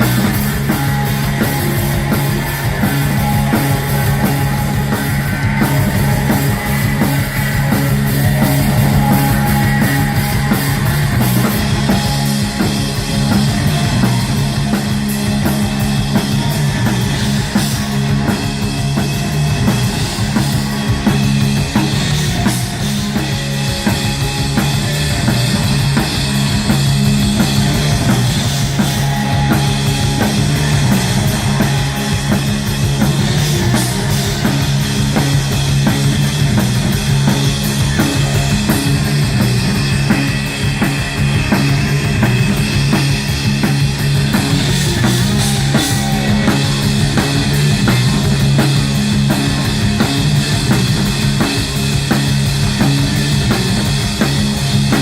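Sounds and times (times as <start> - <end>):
fast drum kit: 0.0 - 55.0
guitar: 0.0 - 55.0
live rock band playing: 0.0 - 55.0
sustained low bass notes: 0.0 - 55.0.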